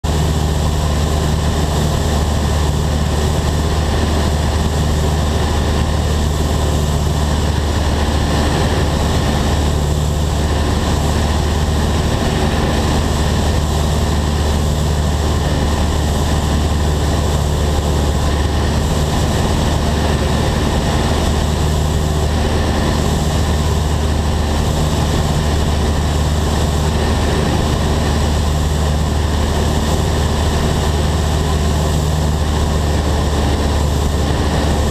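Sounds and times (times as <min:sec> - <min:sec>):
airplane engine and propeller: 0:00.0 - 0:34.9.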